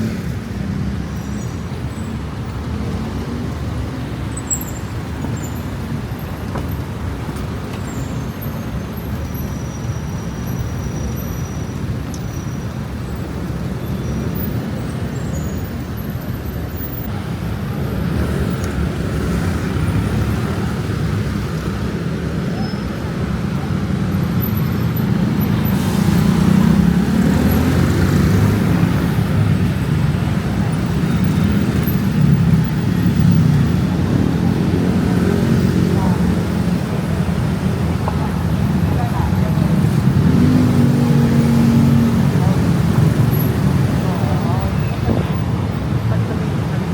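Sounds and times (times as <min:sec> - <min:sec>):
road traffic: 0:00.0 - 0:46.9
voices of passers-by: 0:00.0 - 0:46.9.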